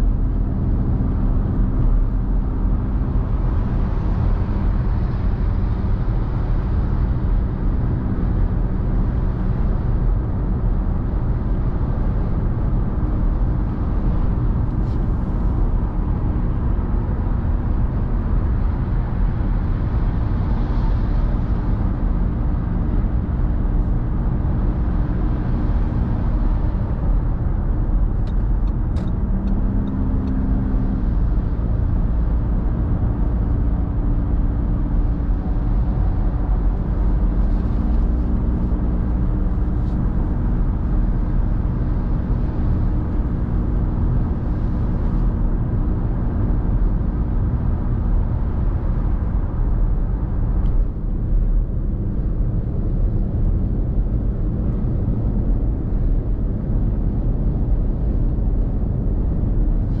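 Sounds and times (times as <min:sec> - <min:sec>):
low engine hum: 0:00.0 - 1:00.0.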